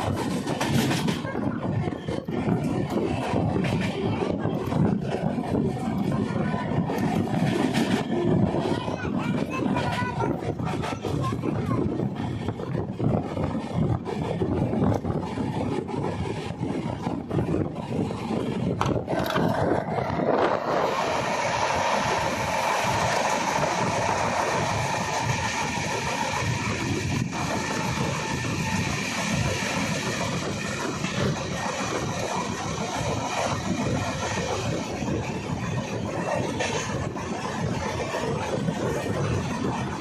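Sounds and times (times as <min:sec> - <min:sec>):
train running on rails: 0:00.0 - 0:40.0.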